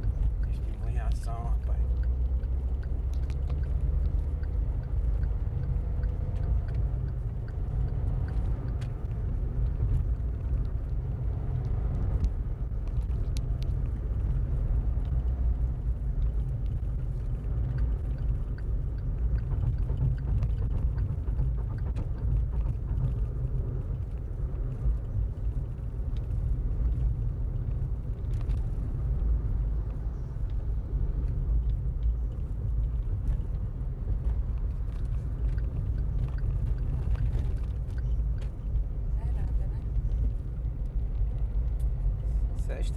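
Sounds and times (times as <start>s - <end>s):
faint ticks: 0.0s - 11.0s, 11.6s - 28.8s, 29.9s - 38.8s
car driving heard from inside: 0.0s - 42.9s.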